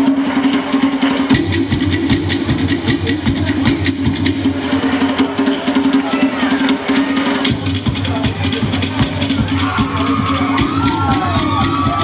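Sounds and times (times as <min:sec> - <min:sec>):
rapid drum strikes: 0:00.0 - 0:12.0
steady low drum tone: 0:00.0 - 0:12.0.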